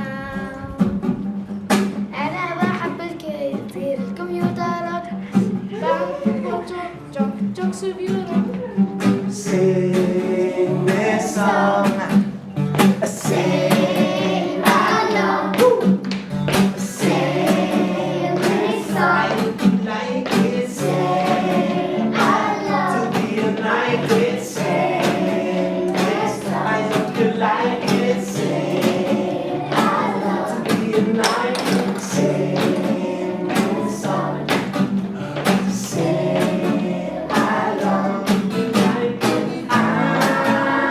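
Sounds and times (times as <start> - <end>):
group of voices singing: 5.2 - 40.9.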